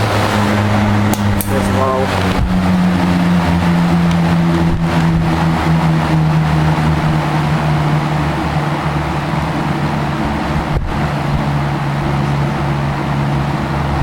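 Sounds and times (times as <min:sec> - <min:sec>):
fan motor humming: 0:00.0 - 0:14.0
rush of moving air: 0:00.0 - 0:14.0.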